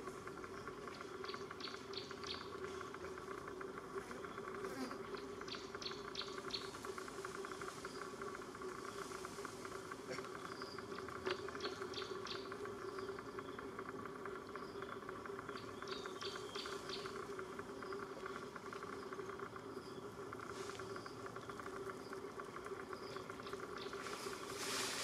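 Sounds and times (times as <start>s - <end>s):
insect trilling: 0.0s - 25.0s.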